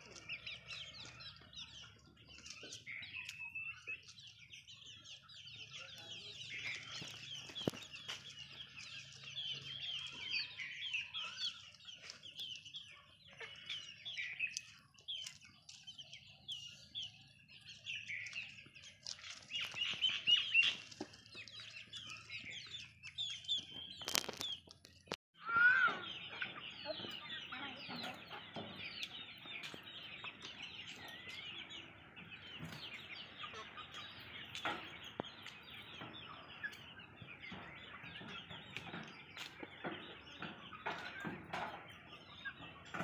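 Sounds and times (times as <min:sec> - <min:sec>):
chickens cheeping and clucking: 0:00.0 - 0:43.0.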